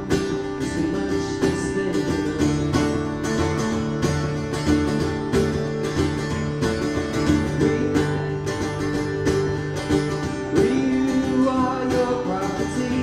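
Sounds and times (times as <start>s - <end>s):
strummed acoustic guitar folk music: 0.0s - 13.0s.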